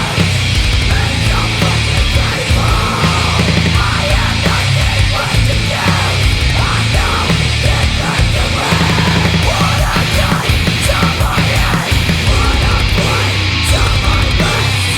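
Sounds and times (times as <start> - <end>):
heavy metal song: 0.0 - 14.9
pounding drums: 0.0 - 14.9.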